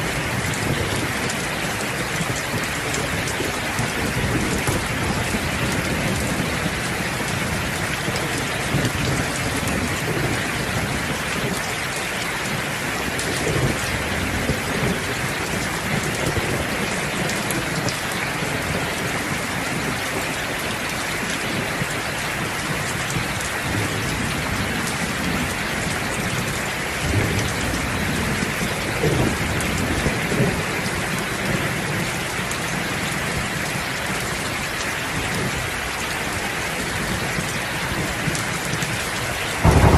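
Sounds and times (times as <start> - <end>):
thunder rumbling and cracking: 0.0 - 33.5, 37.0 - 39.9
heavy rain: 0.0 - 39.9.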